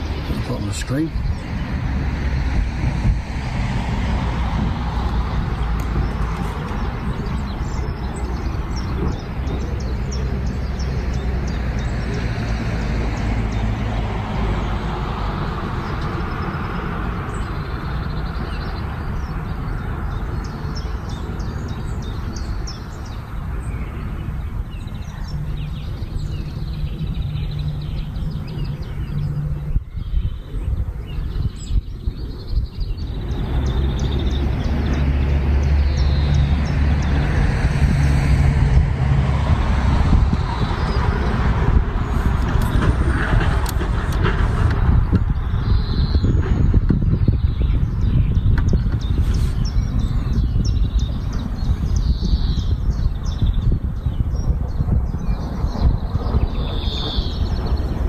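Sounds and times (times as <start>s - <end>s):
small birds chirping: 0.0s - 3.5s, 4.4s - 37.6s, 40.1s - 58.0s.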